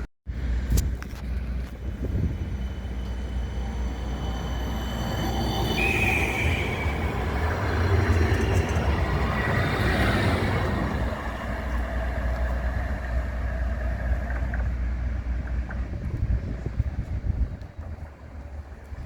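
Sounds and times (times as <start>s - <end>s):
tram running past: 0.3s - 19.0s.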